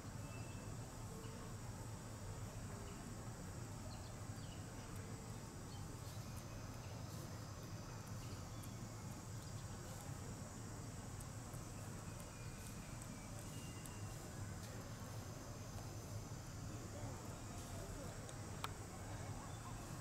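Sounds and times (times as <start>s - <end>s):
steady low hum: 0.0s - 20.0s
faint chirps and ticks: 0.1s - 20.0s.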